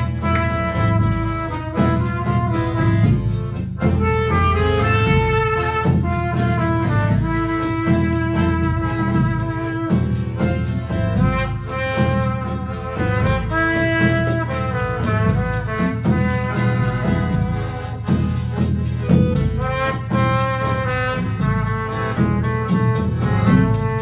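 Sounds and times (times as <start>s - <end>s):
accordion: 0.0s - 24.0s
drum kit beat: 0.0s - 24.0s
large drum: 0.0s - 24.0s
trumpet melody: 0.0s - 24.0s.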